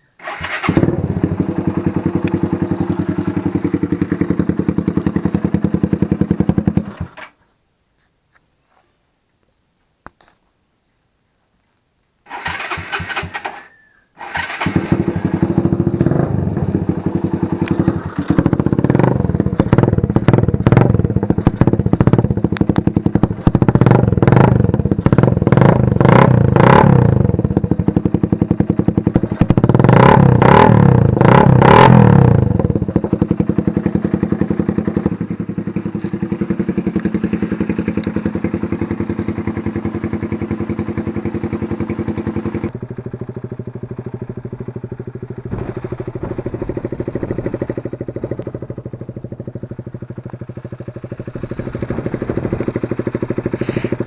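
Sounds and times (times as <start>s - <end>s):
motorcycle engine idling: 0.0s - 7.4s, 12.3s - 54.0s
motorcycle engine revving: 0.2s - 7.3s, 12.3s - 54.0s.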